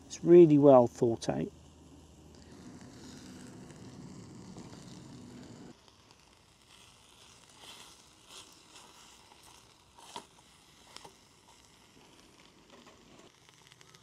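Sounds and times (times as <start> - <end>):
small wood fire crackling: 0.0 - 14.0.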